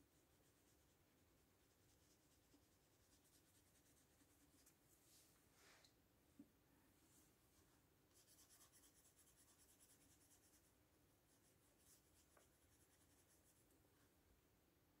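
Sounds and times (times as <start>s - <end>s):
paintbrush strokes on paper: 0.0s - 5.8s, 7.1s - 10.7s, 11.3s - 14.1s.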